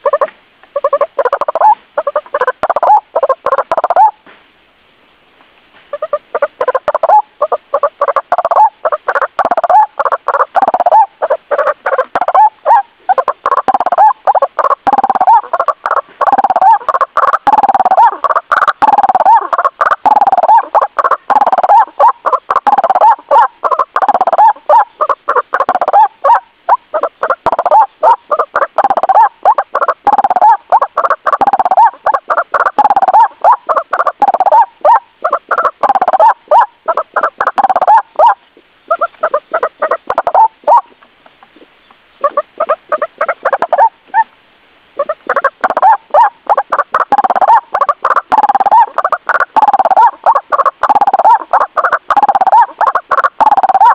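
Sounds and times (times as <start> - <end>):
bird calling harsh repeated notes: 0.0 - 4.2, 5.9 - 44.3, 45.0 - 53.9.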